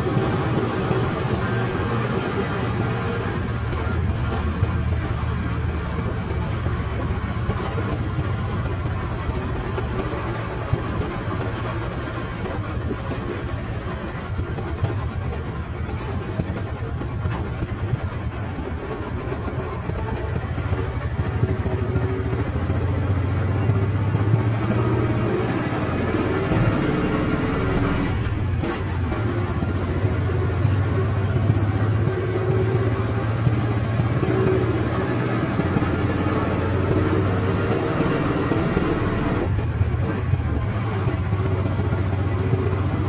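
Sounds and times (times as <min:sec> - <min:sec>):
road and wind noise: 0:00.0 - 0:43.0
vehicle engine running: 0:00.0 - 0:43.0.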